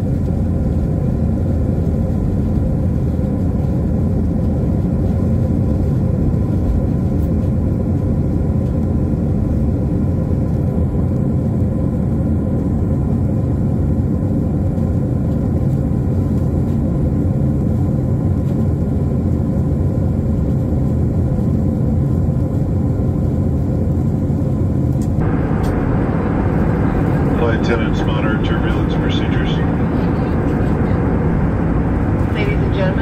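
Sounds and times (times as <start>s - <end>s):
jet engine cabin roar: 0.0s - 33.0s.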